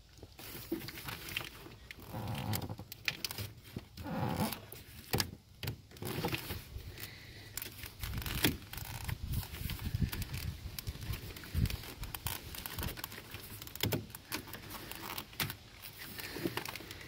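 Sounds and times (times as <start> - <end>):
plastic rustling and scraping: 0.0 - 17.0.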